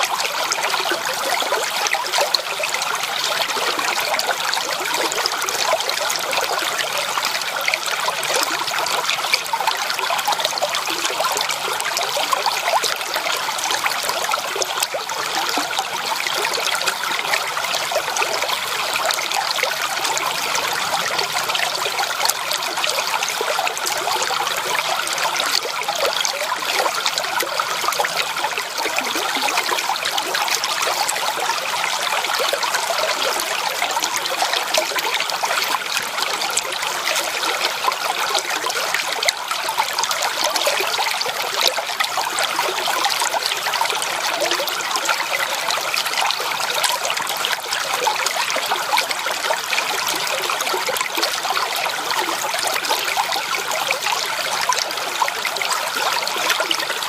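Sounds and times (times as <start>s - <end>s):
creek water babbling over stones: 0.0s - 57.0s.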